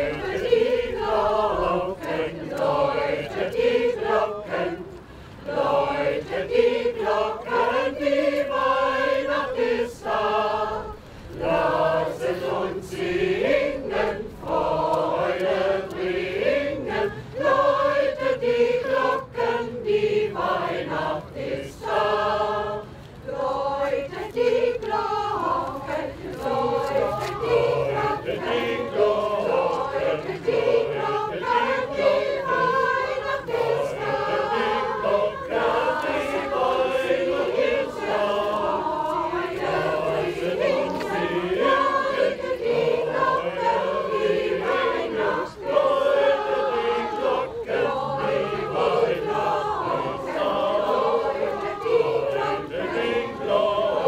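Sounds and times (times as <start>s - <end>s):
mixed choir singing unaccompanied: 0.0s - 54.0s.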